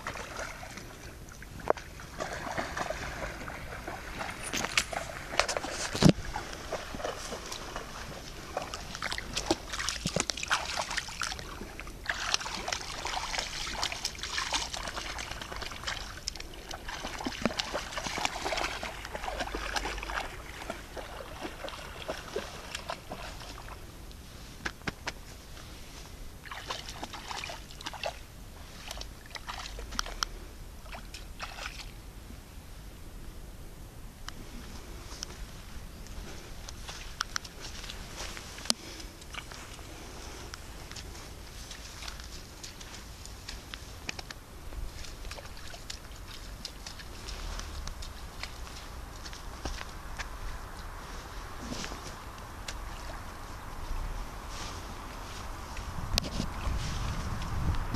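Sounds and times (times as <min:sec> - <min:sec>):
dogs splashing through water: 0:00.0 - 0:24.0, 0:26.4 - 0:32.0, 0:36.1 - 0:57.9.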